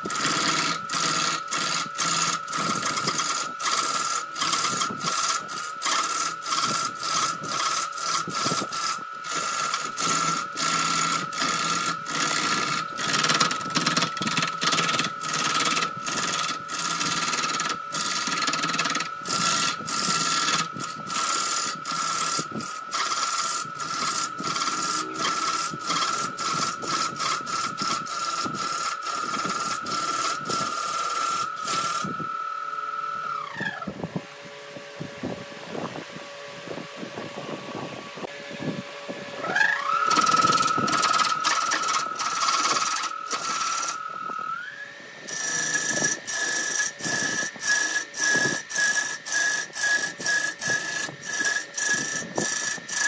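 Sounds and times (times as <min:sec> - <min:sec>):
turning tool scraping wood: 0:00.0 - 0:34.0, 0:39.4 - 0:53.0
lathe motor whine: 0:00.0 - 0:53.0.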